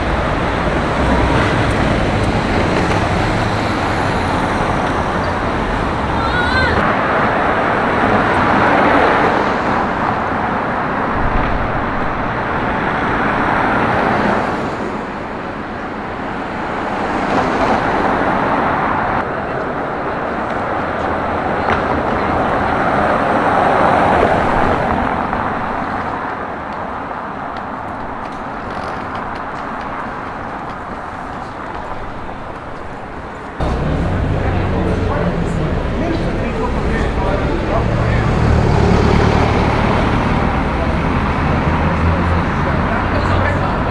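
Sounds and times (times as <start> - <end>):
cars passing: 0.0 - 26.1, 32.0 - 43.9.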